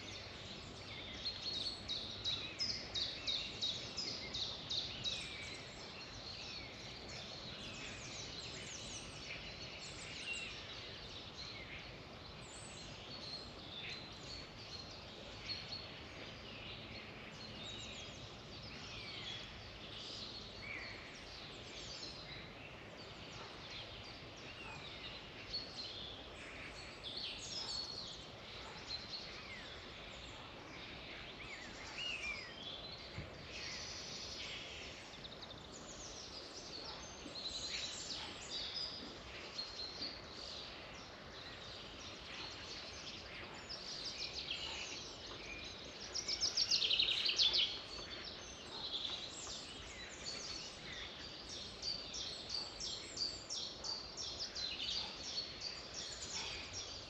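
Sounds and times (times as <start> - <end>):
songbirds chirping and whistling: 0.0 - 57.0
steady background hiss: 0.0 - 57.0.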